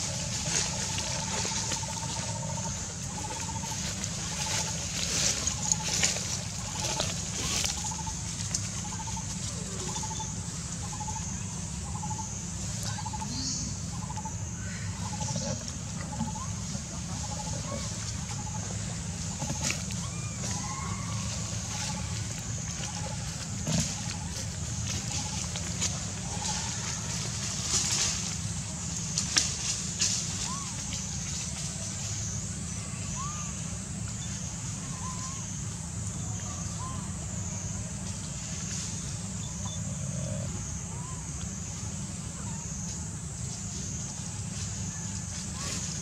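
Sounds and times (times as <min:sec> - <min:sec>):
rustling dry leaves: 0:00.0 - 0:36.3, 0:40.8 - 0:46.0
high insect-like hiss: 0:00.0 - 0:46.0
steady low rumble: 0:00.0 - 0:46.0.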